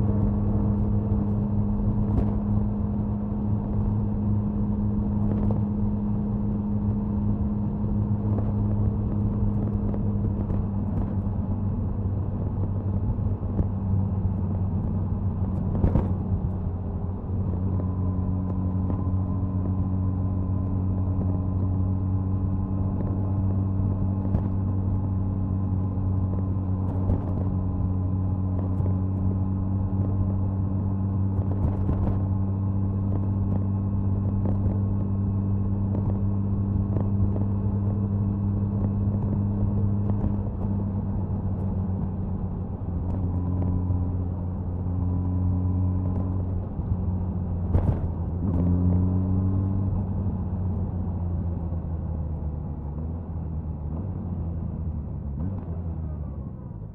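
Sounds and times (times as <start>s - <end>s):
motorcycle exhaust cruising: 0.0s - 56.9s.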